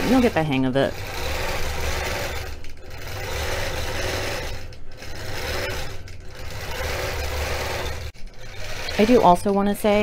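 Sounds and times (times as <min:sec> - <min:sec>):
needle stitching rapidly: 0:00.0 - 0:09.4
quilting machine motor hum: 0:00.0 - 0:10.0.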